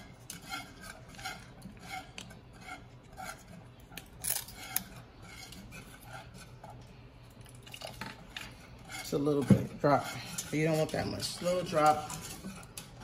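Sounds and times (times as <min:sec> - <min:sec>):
whisk scraping a steel pot: 0:00.0 - 0:13.0.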